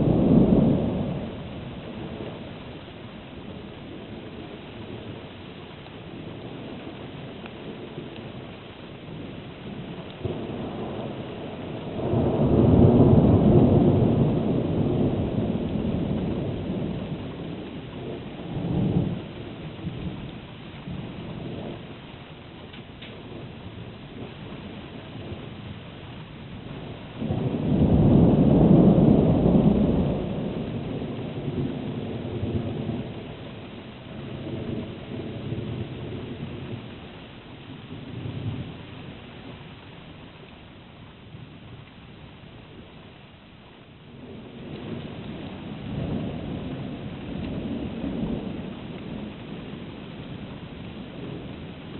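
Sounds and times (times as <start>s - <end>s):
rain hissing: 0.0s - 51.9s
thunder rumbling: 0.0s - 51.9s.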